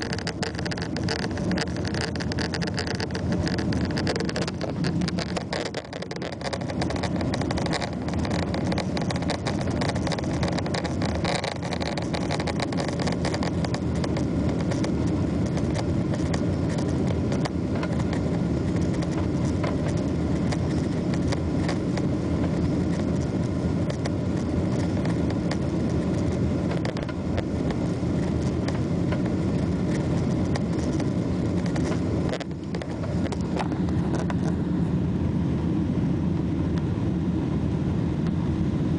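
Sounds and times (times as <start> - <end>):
airliner cabin engine noise: 0.0 - 38.9.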